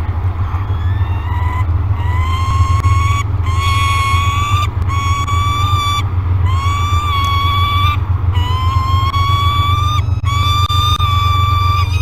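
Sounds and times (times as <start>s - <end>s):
low hum: 0.0s - 12.0s
young falcon wailing calls: 0.5s - 12.0s.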